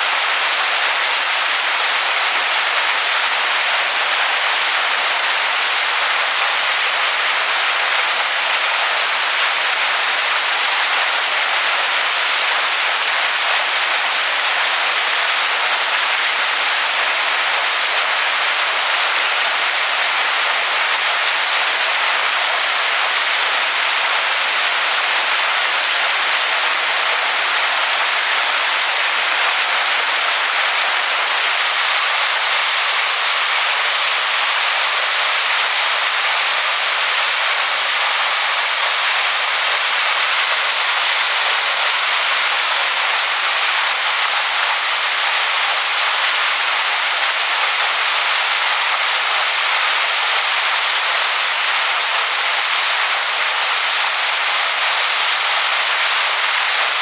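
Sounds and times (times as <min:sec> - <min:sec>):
waterfall pouring onto rocks: 0:00.0 - 0:57.0.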